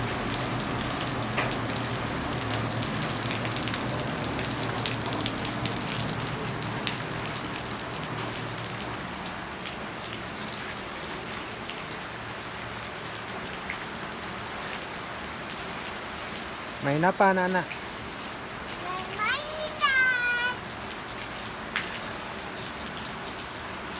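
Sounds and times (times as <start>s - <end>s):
rain falling: 0.0s - 23.9s
raindrops tapping on surfaces: 0.0s - 23.9s.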